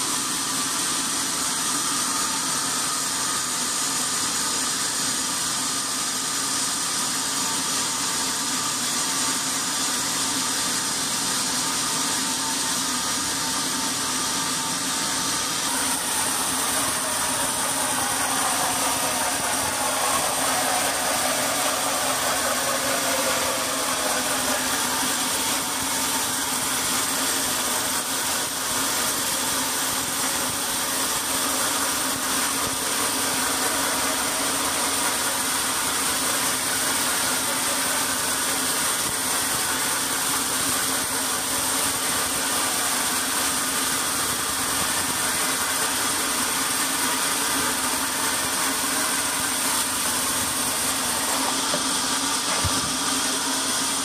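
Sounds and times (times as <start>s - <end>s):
band sawmill cutting log: 0.0s - 54.0s.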